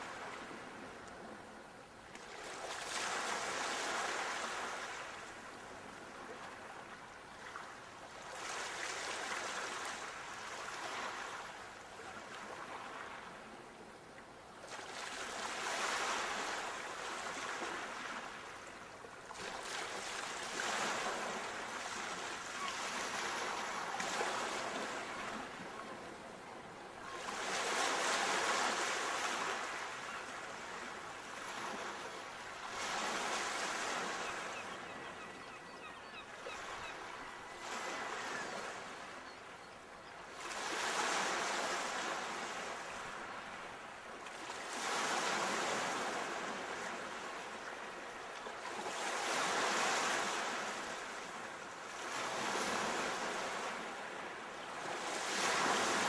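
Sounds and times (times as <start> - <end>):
sea waves breaking on shore: 0.0 - 13.7, 14.6 - 39.7, 40.3 - 56.0.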